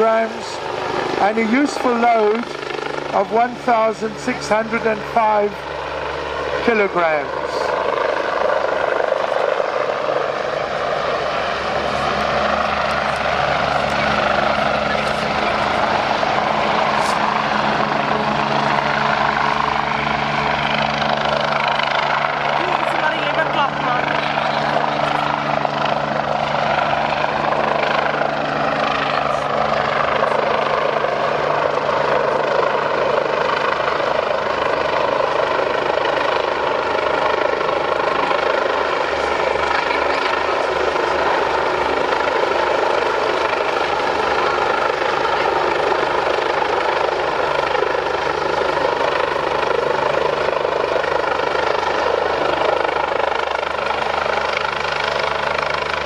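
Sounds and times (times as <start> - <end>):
helicopter rotor beating: 0.0 - 56.0
turbines whining: 0.0 - 56.0.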